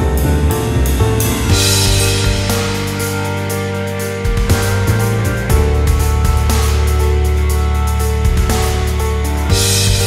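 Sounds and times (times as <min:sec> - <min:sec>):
drums with steady beat: 0:00.0 - 0:10.0
sustained bass notes: 0:00.0 - 0:10.0.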